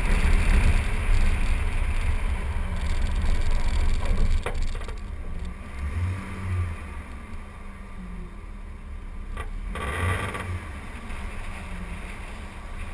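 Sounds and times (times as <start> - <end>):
engine and road rumble: 0.0 - 12.9.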